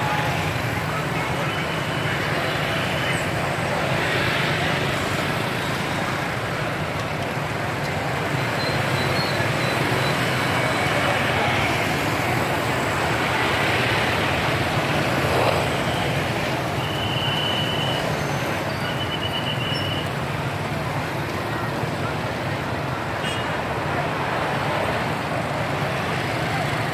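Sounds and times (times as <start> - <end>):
motorbike traffic: 0.0 - 26.9.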